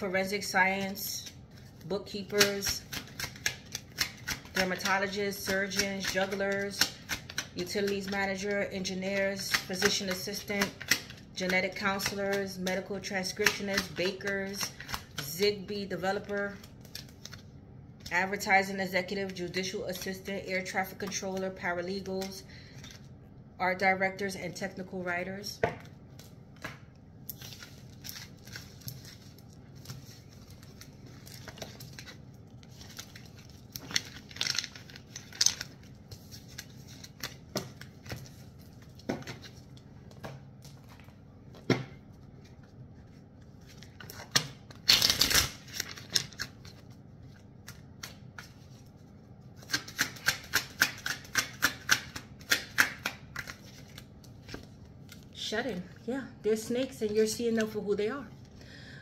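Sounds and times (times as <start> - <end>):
cards being shuffled: 0.2 - 23.1, 25.8 - 55.3.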